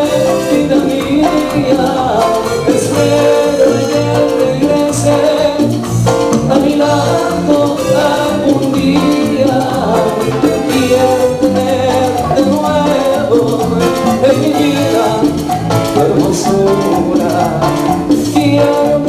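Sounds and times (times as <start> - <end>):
latin dance band playing: 0.0 - 19.0.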